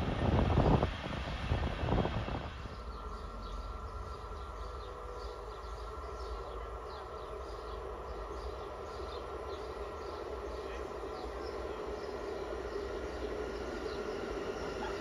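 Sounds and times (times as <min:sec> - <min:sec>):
train rumbling: 0:00.0 - 0:15.0
small birds chirping: 0:02.6 - 0:15.0.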